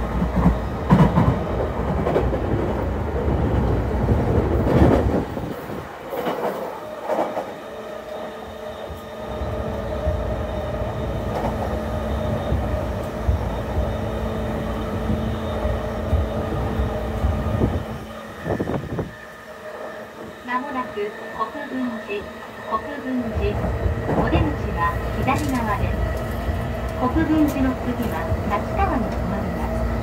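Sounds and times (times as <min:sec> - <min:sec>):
train droning hum: 0:00.0 - 0:30.0.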